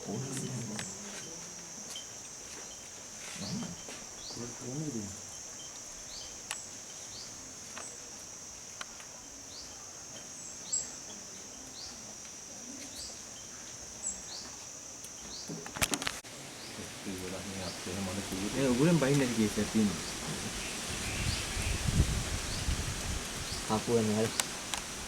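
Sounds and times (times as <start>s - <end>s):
insect chirps: 0.0s - 25.0s
insect drone: 0.0s - 25.0s.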